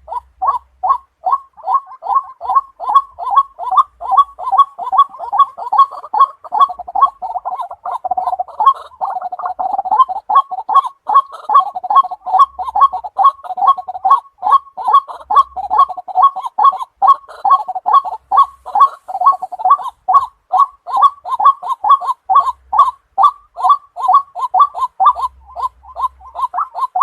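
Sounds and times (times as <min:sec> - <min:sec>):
waterhen calling: 0:00.0 - 0:27.0.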